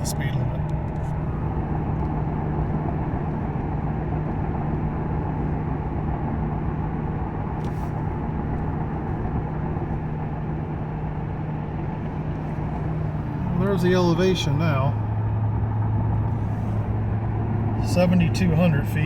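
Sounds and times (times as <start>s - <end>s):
car engine hum: 0.0s - 19.0s
road and tyre noise: 0.0s - 19.0s.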